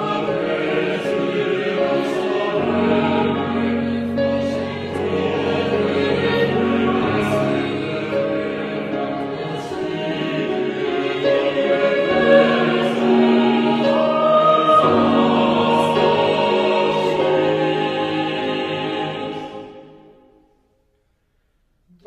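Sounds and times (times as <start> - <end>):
choir singing sustained chords: 0.0 - 20.8.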